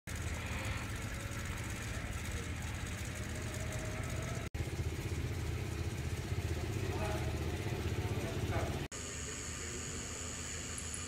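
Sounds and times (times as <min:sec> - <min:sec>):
engine idling: 0:00.1 - 0:11.0.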